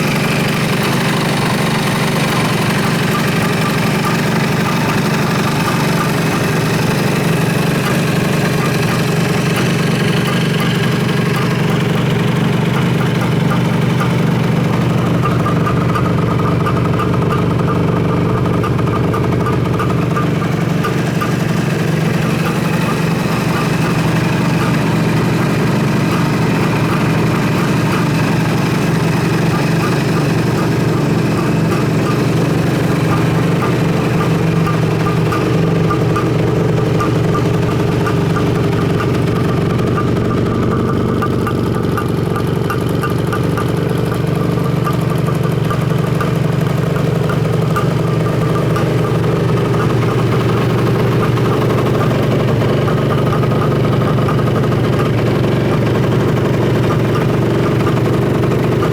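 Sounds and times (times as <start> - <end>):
two-stroke engine idling: 0.0 - 58.9.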